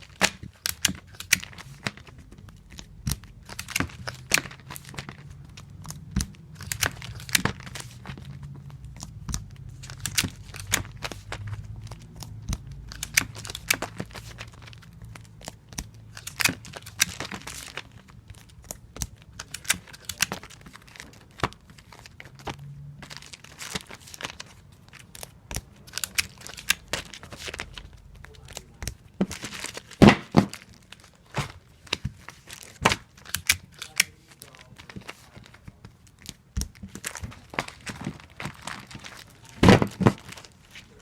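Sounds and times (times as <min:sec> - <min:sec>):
paper and plastic crinkling: 0:00.0 - 0:41.0.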